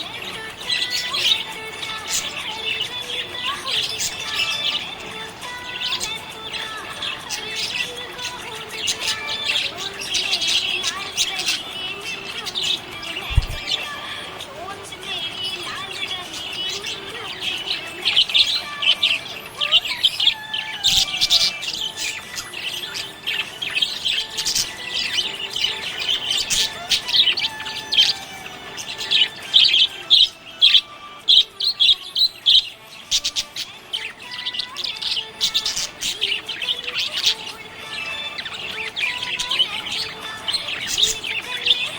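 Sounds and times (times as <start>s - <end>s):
budgerigar chirping and warbling: 0.0s - 41.9s.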